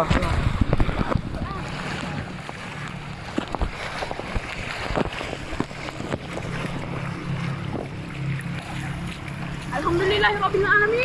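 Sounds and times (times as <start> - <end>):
water rushing and splashing: 0.0 - 11.0
wind buffeting microphone: 0.0 - 11.0.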